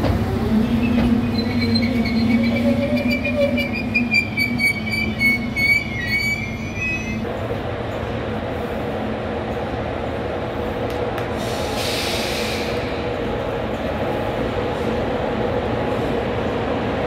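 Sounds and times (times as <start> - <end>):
train rumble and hum: 0.0 - 17.0.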